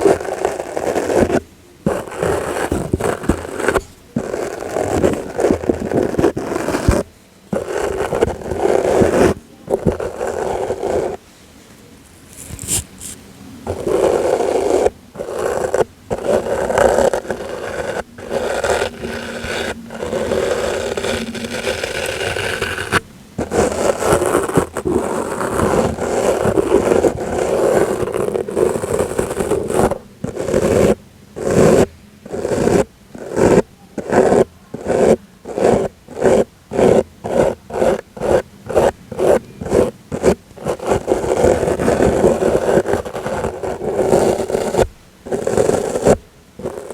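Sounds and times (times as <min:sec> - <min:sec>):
brush stroked against microphone: 0:00.0 - 0:11.2, 0:12.0 - 0:46.9.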